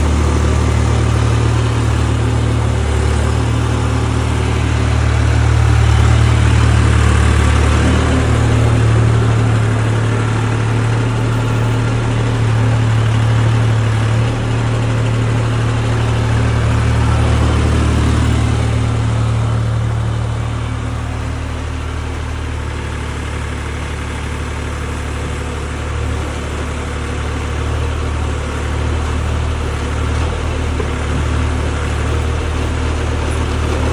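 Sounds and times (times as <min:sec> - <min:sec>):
excavator engine digging: 0:00.0 - 0:33.9.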